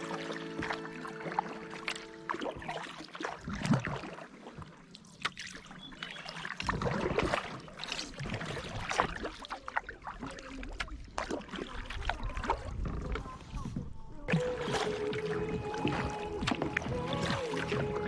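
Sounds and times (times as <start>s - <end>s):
paddle strokes splashing: 0.0s - 18.0s.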